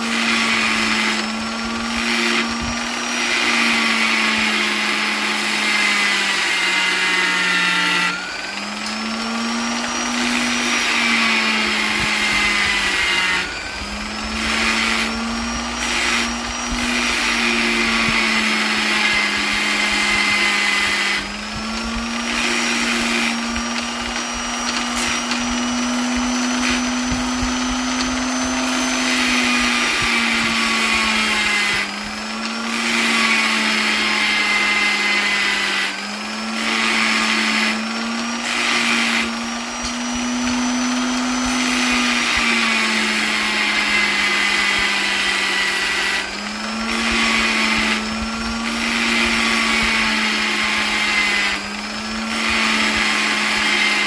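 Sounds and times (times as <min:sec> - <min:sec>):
electric polisher motor whining: 0:00.0 - 0:54.0.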